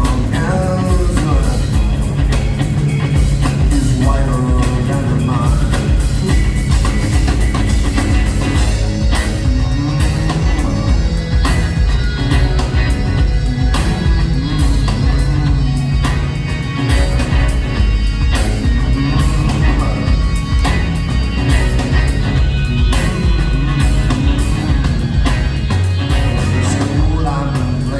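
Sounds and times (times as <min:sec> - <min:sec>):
drum kit: 0:00.0 - 0:27.9
rock band playing live: 0:00.0 - 0:27.9.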